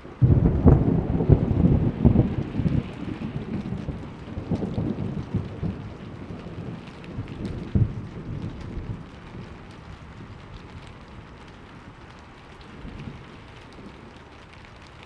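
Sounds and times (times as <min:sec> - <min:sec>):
steady rain: 0:00.0 - 0:15.0
thunder rumbling and crackling: 0:00.0 - 0:15.0.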